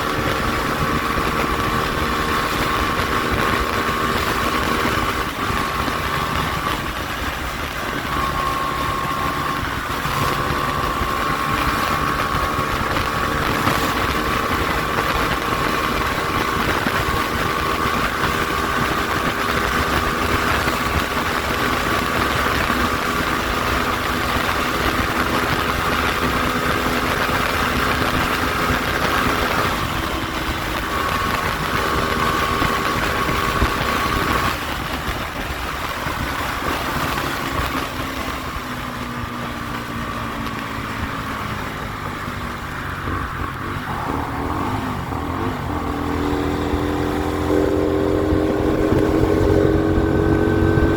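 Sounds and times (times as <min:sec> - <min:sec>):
motorcycle engine running: 0:00.0 - 0:50.9
wind on microphone: 0:00.0 - 0:50.9.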